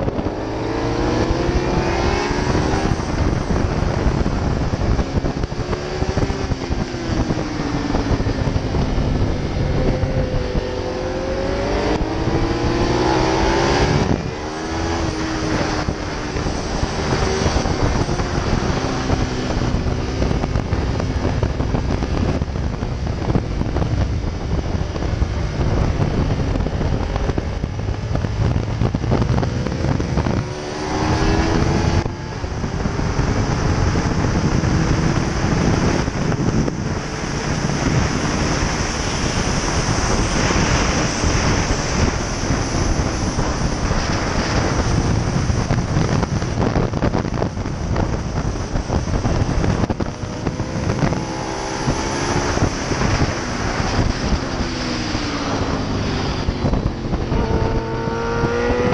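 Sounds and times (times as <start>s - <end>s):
motorcycle engine accelerating: 0.0s - 58.9s
wind rush on microphone: 0.0s - 58.9s.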